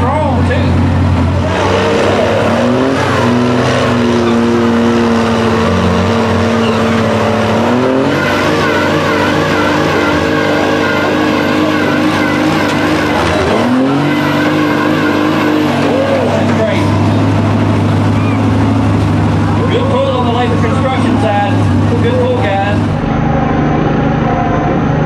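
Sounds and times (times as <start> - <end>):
diesel truck engine revving: 0.0 - 25.0.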